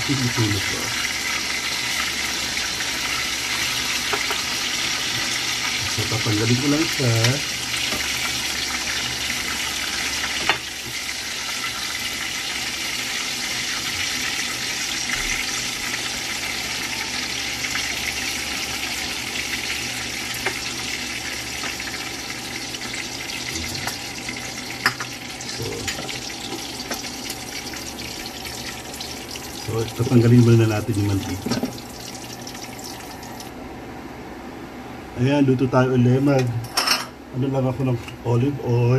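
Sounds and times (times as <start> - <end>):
chicken sizzling in oil: 0.0 - 33.6.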